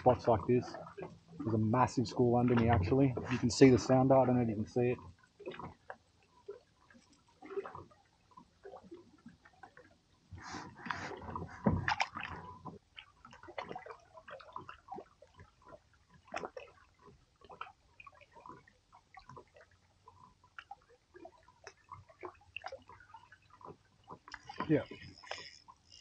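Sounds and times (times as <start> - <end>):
water sloshing against hull: 0.0 - 26.0.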